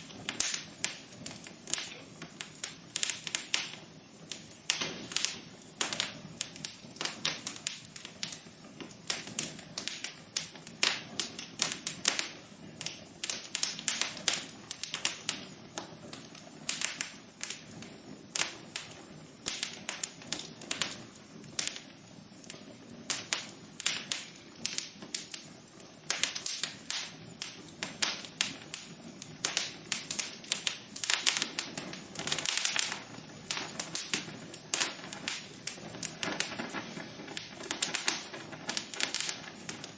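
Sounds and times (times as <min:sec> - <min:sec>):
low steady fire hiss: 0:00.0 - 0:39.9
wood fire crackling and popping: 0:00.0 - 0:39.9.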